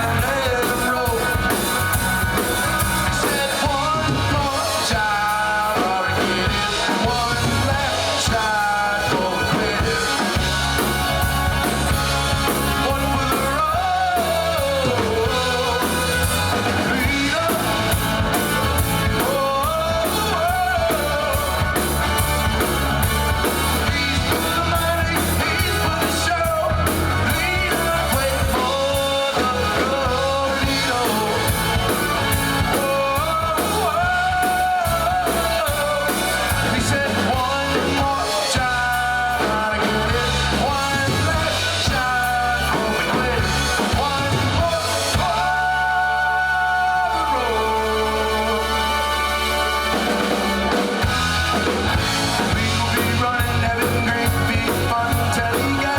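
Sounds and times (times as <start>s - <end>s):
rock and roll song on radio: 0.0s - 55.9s.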